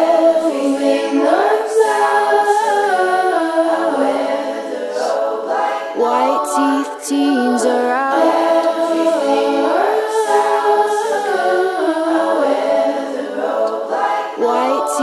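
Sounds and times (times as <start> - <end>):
wordless a cappella vocal harmonies: 0.0 - 15.0.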